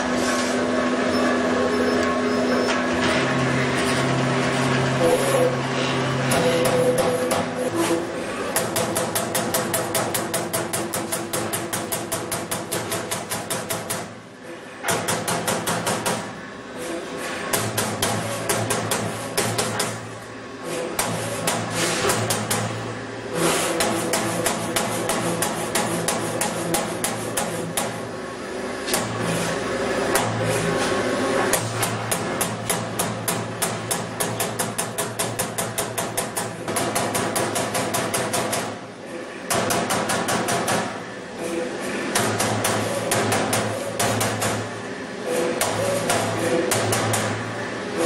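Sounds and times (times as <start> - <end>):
steady machine hum: 0.0 - 48.0
punch press punching sheet steel: 4.5 - 28.2, 31.5 - 48.0.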